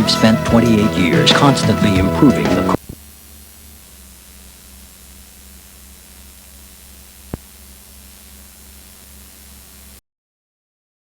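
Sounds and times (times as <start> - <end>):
tape hiss and electrical hum: 0.0 - 10.0.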